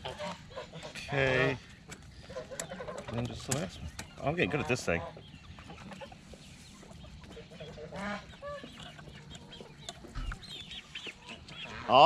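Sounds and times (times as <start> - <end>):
poultry clucking and calling: 0.0 - 12.0.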